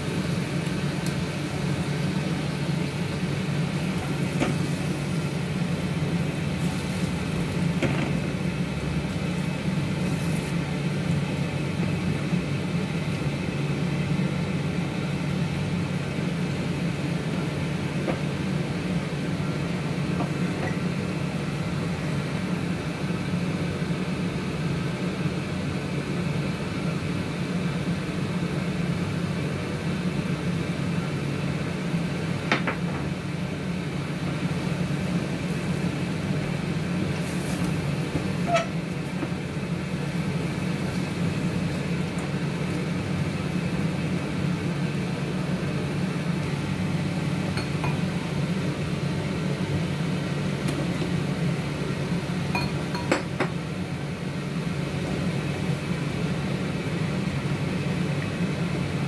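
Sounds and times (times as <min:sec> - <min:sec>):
chicken sizzling in a wok: 0:00.0 - 0:59.0.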